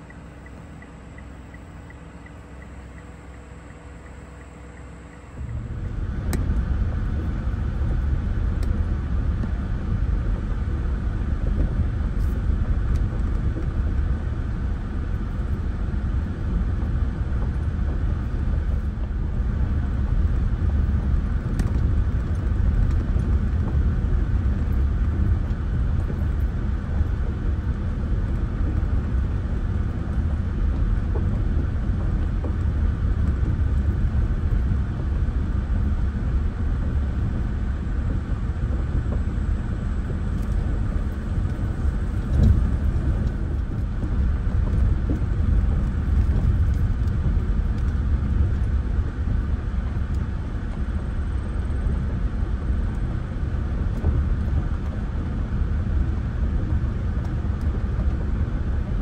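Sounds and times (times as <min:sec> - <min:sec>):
car rolling on gravel: 0:05.3 - 0:59.0.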